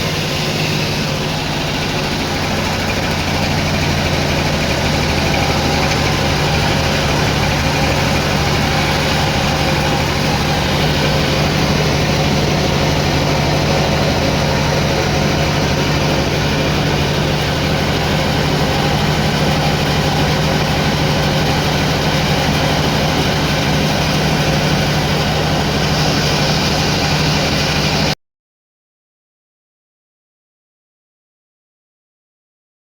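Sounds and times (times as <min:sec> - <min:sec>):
sawmill machinery humming: 0:00.0 - 0:28.2.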